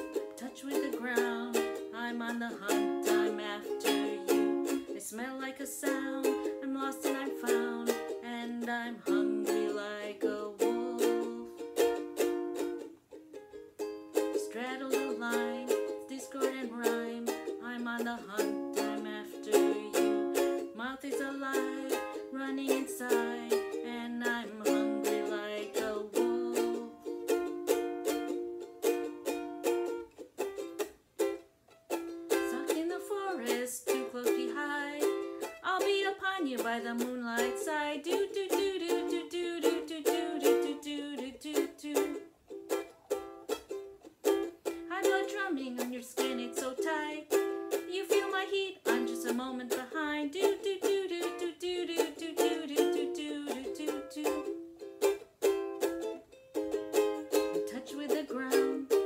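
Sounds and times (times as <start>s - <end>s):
ukulele strumming: 0.0s - 59.0s.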